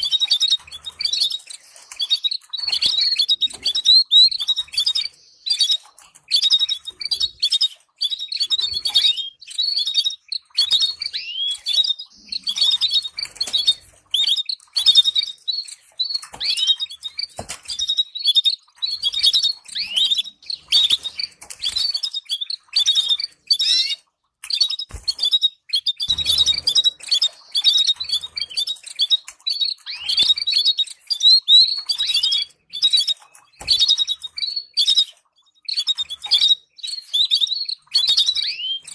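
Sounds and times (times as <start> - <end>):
canary singing chirps and trills: 0.0 - 38.9.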